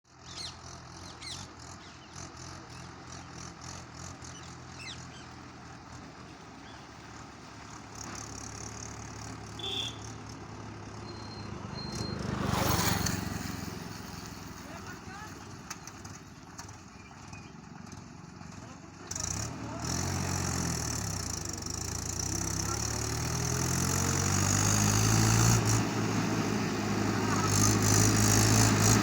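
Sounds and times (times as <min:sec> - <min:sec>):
tractor diesel engine running: 0:00.1 - 0:12.6, 0:13.2 - 0:29.0.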